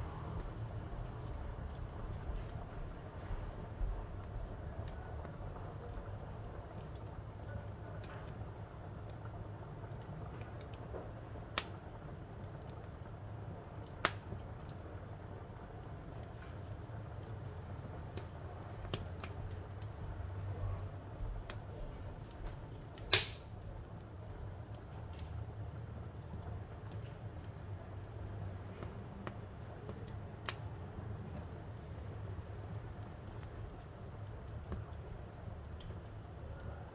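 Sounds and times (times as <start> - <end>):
fire crackles and pops: 0.0 - 36.9
wood fire rumbling: 0.0 - 36.9.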